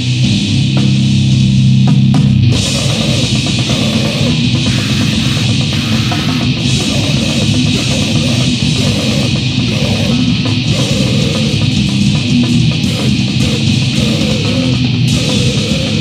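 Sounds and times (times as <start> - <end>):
distorted guitar: 0.0 - 16.0
fast drumming: 0.0 - 16.0.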